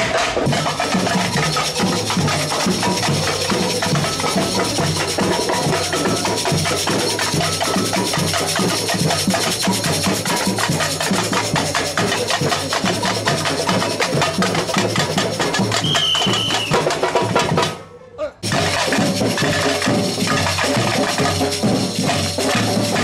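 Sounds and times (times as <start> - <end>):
shaker and rattles: 0.0 - 17.5, 18.4 - 23.0
percussion ensemble playing: 0.0 - 23.0.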